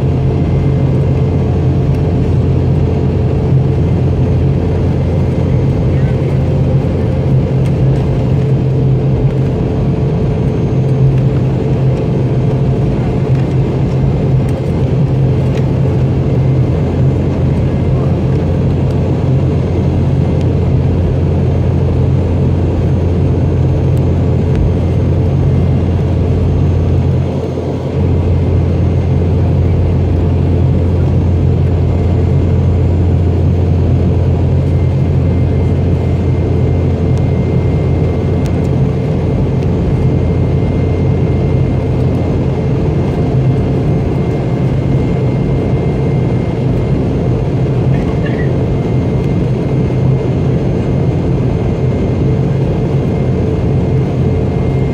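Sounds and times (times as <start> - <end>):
airliner cabin drone: 0.0 - 54.9.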